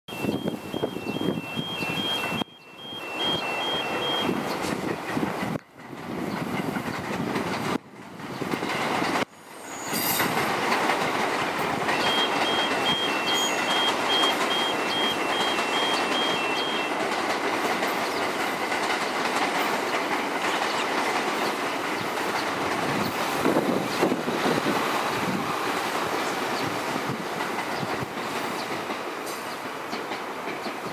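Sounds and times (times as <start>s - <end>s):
train wheels rumbling on rails: 0.1s - 30.9s.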